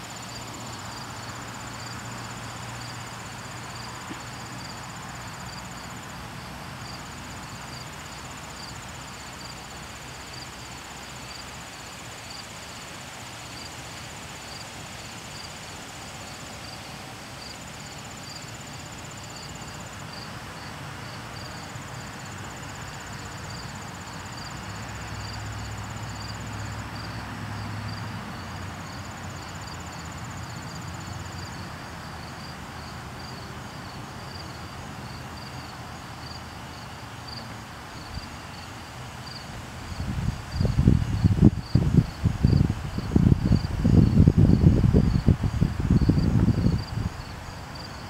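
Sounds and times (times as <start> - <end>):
high insect trill: 0.0 - 48.0
insects chirping: 0.0 - 48.0.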